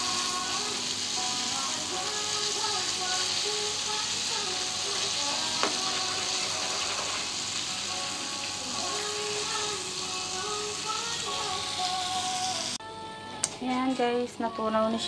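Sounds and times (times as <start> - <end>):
butter sizzling in a pan: 0.0 - 12.8
background music: 0.0 - 15.0.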